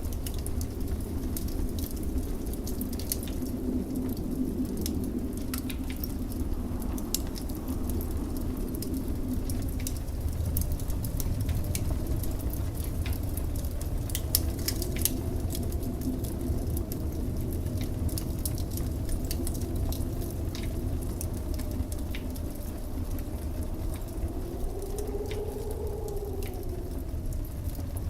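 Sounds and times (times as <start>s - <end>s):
blizzard wind rumbling: 0.0s - 28.0s
wind howling: 0.0s - 28.0s
wood fire crackling and popping: 0.0s - 28.0s.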